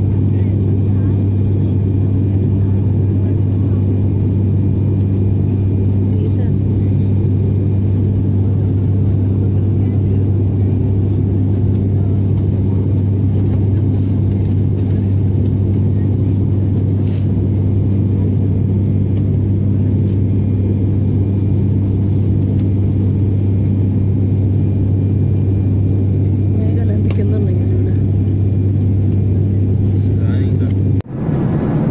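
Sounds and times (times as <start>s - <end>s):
turboprop engines droning in cabin: 0.0s - 31.9s.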